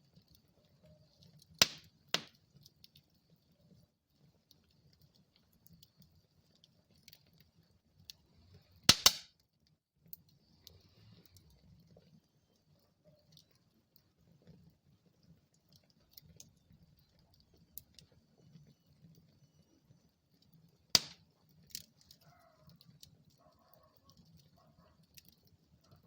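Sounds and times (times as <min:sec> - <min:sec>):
burning wood popping: 0:00.0 - 0:26.0
wood fire crackling: 0:00.0 - 0:26.0.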